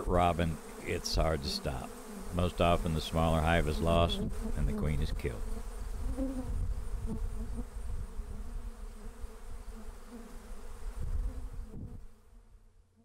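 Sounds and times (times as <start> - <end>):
honeybees buzzing: 0.0 - 12.5.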